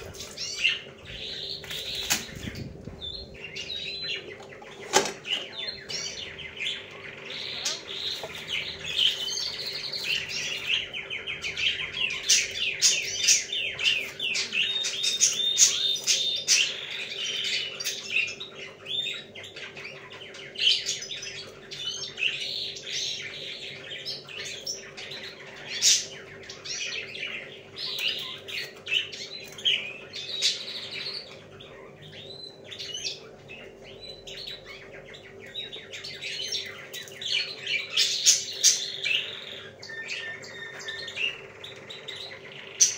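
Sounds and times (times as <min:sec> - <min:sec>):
small birds chirping chorus: 0:00.0 - 0:42.9.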